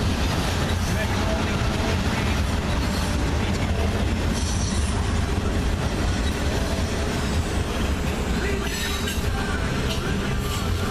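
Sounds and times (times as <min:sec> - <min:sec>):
steel wheels rumbling on rails: 0:00.0 - 0:10.9.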